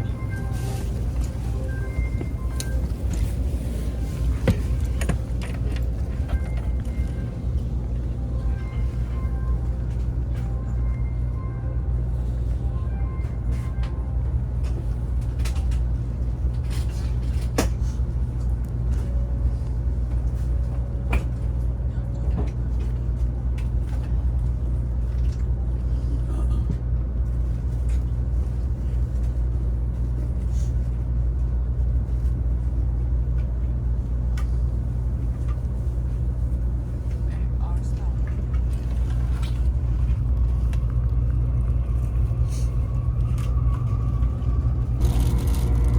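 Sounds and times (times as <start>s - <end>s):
train running low rumble: 0.0s - 45.9s.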